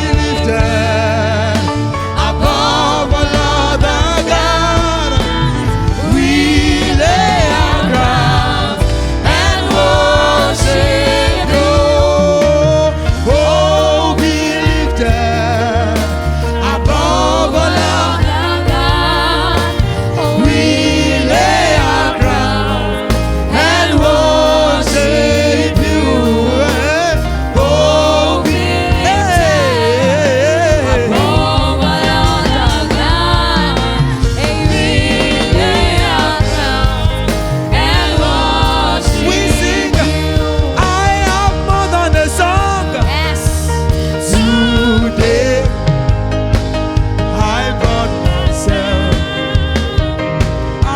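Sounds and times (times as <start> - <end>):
band with strong bass: 0.0 - 50.9.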